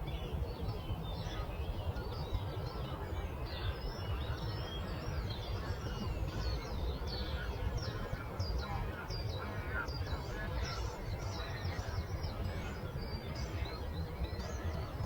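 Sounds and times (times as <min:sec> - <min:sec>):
small birds chirping and trilling: 0:00.0 - 0:15.0.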